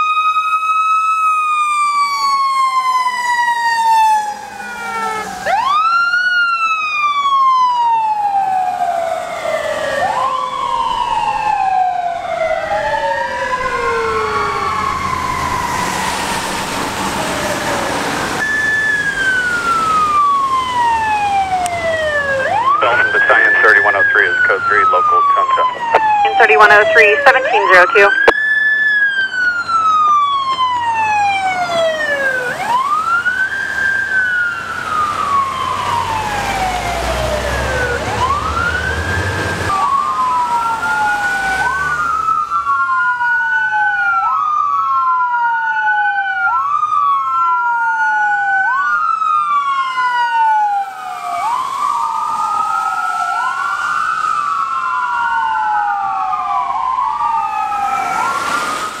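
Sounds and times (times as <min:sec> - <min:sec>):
sirens wailing: 0:00.0 - 0:59.0.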